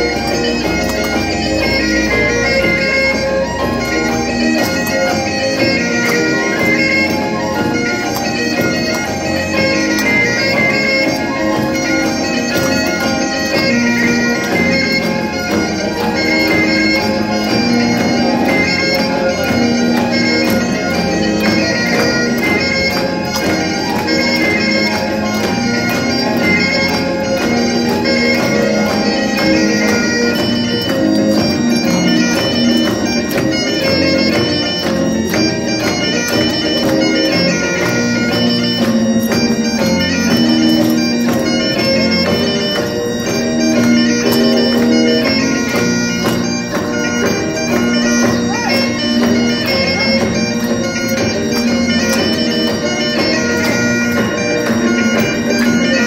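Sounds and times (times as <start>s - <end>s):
bagpipes playing a jig: 0.0s - 56.0s.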